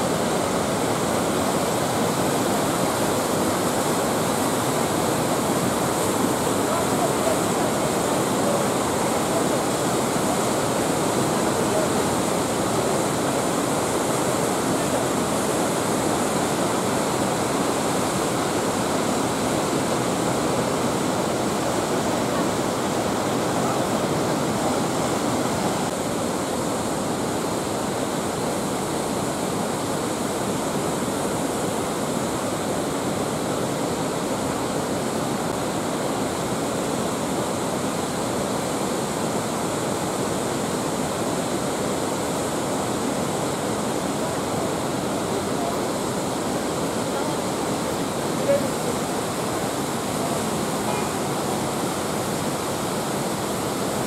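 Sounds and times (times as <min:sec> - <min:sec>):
waterfall rushing over boulders: 0:00.0 - 0:54.0.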